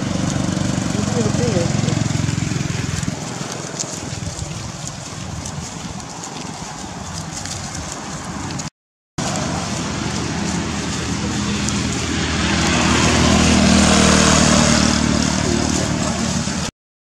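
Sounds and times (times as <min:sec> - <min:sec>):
vehicle engine running: 0:00.0 - 0:16.7.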